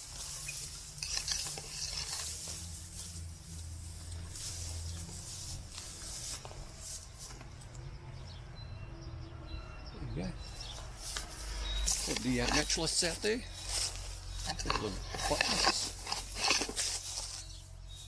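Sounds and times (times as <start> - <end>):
footsteps rustling through grass: 0.0 - 7.7, 10.4 - 18.0.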